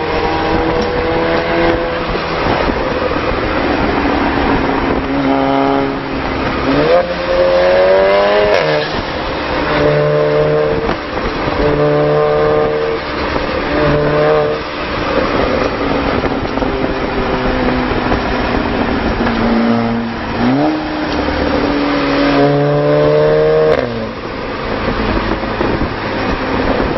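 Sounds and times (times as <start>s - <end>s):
car engine and exhaust: 0.0s - 26.9s.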